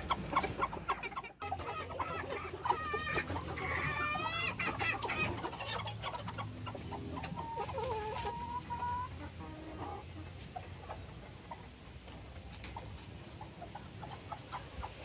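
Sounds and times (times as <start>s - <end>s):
chickens clucking and calling: 0.0s - 15.0s.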